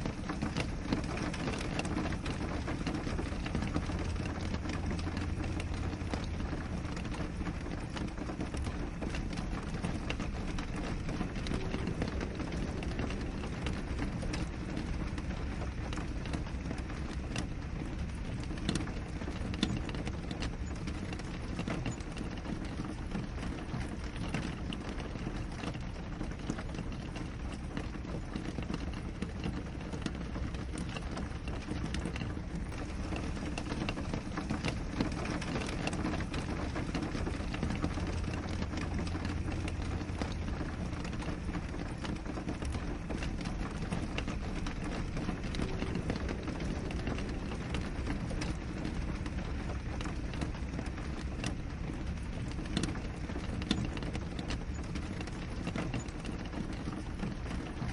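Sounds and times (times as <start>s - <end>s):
rain pattering on a window: 0.0s - 57.9s.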